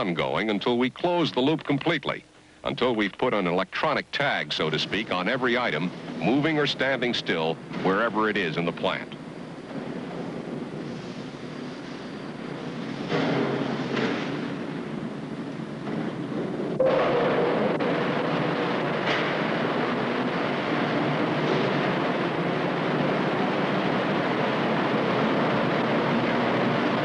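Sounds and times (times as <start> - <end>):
steady machinery din: 4.6 - 27.0.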